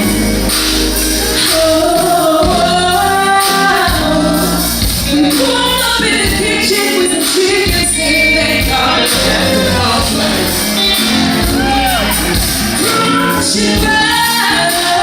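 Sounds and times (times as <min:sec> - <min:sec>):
bass: 0:00.0 - 0:15.0
drums: 0:00.0 - 0:15.0
woman singing: 0:01.4 - 0:10.7, 0:11.4 - 0:15.0.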